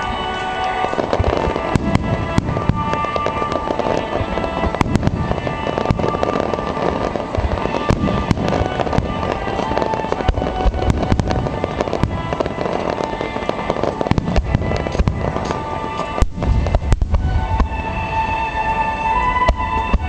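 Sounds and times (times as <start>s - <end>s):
fireworks bangs and crackling: 0.0s - 20.0s
music playing: 0.0s - 20.0s.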